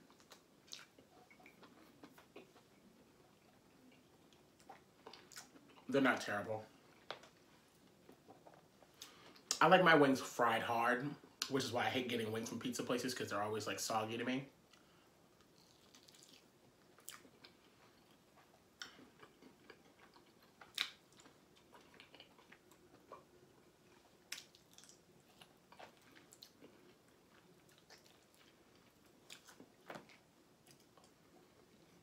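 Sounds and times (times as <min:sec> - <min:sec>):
person chewing food: 0:00.0 - 0:05.9, 0:06.7 - 0:09.6, 0:14.7 - 0:32.0.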